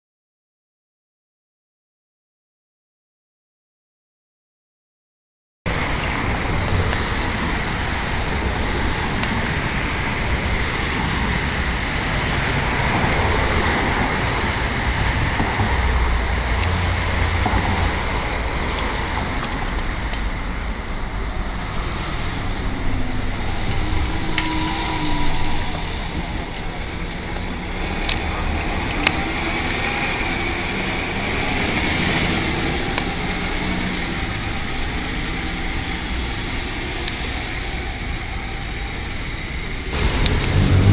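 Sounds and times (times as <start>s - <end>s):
bus engine rumbling past: 5.7s - 40.9s
street traffic noise: 5.7s - 40.9s.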